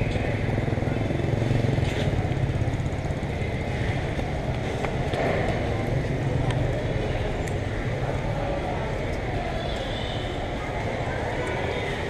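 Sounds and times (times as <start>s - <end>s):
motorbike and road traffic rumble: 0.0s - 12.0s.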